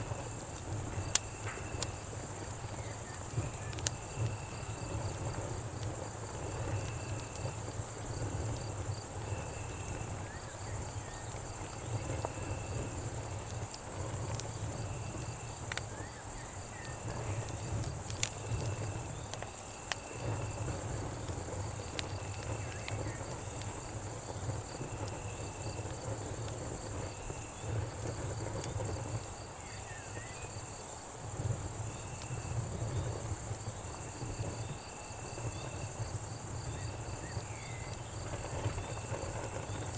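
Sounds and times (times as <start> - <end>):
campfire crackles: 0.0 - 39.9
cicadas and crickets droning: 0.0 - 39.9
cricket chirping: 0.0 - 39.9.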